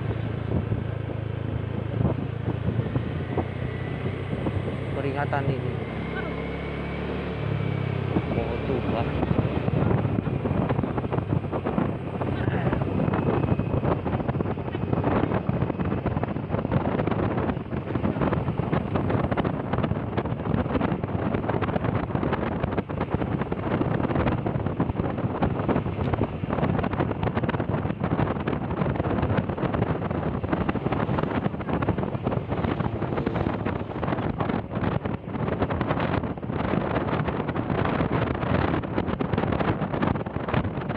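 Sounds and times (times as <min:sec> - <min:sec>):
moving vehicle running noise: 0:00.0 - 0:40.9
wind buffeting microphone: 0:00.0 - 0:40.9.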